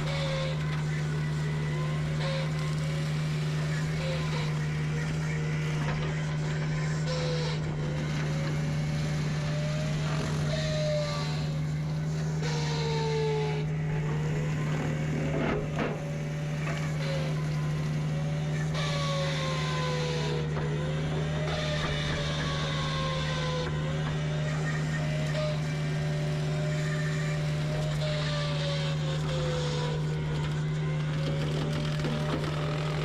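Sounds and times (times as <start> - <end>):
hydraulic whine: 0.0 - 33.0
mulcher engine drone: 0.0 - 33.0.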